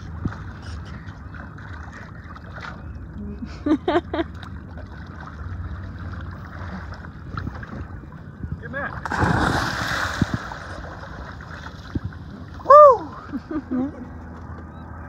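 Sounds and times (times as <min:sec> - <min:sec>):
low rumble of wind: 0:00.0 - 0:15.0
water gurgling and lapping: 0:00.0 - 0:15.0.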